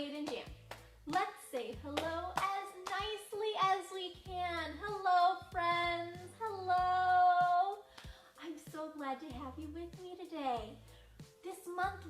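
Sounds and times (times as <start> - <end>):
woman singing children's song: 0.0 - 10.8, 11.4 - 12.0.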